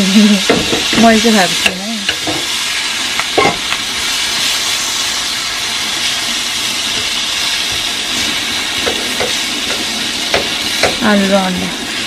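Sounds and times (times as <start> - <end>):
potatoes sizzling in a pan: 0.0 - 12.0.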